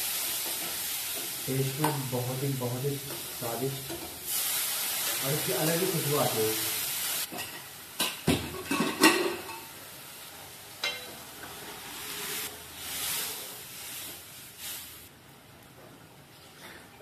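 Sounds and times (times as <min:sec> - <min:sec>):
soft sizzling hiss: 0:00.0 - 0:17.0.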